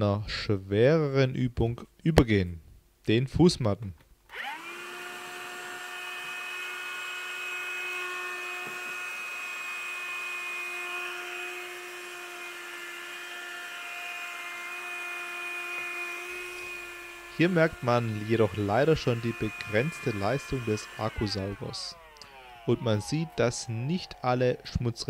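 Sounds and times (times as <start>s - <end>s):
handheld vacuum cleaner whining: 4.3s - 25.0s.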